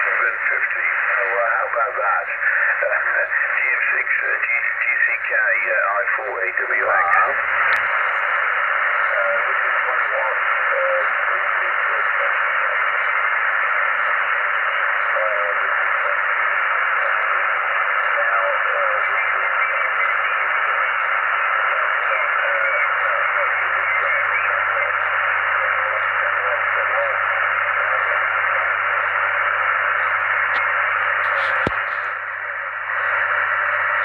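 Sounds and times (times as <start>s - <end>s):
faint garbled radio voice: 0.0s - 34.0s
radio band noise hiss: 0.0s - 34.0s.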